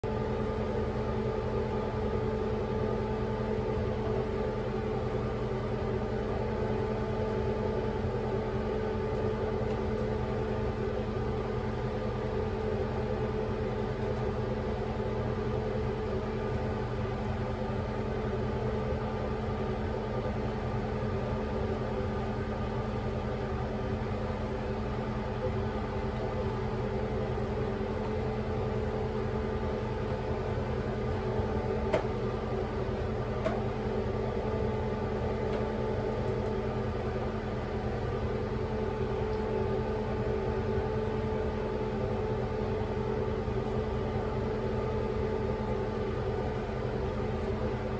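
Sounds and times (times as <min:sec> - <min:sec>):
mechanical hum: 0:00.0 - 0:47.9.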